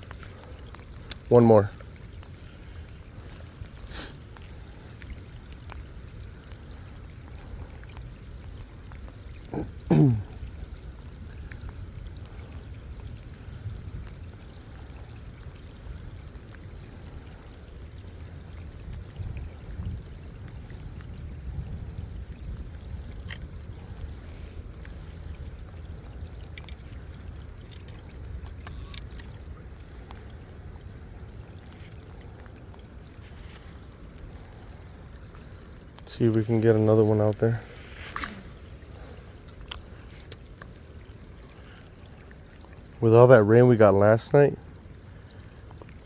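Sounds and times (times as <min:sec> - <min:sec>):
steady rain and water: 0:00.0 - 0:46.0.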